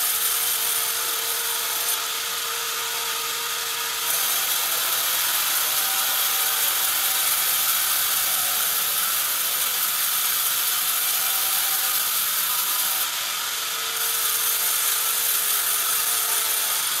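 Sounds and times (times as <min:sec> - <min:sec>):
band saw cutting timber: 0:00.0 - 0:17.0.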